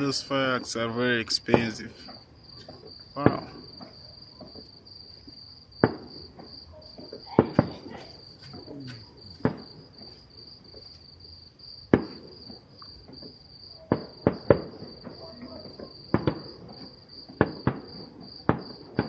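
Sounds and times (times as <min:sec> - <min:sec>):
distant fireworks bangs: 0:00.0 - 0:10.9, 0:11.8 - 0:19.0
crickets chirping: 0:00.0 - 0:19.0.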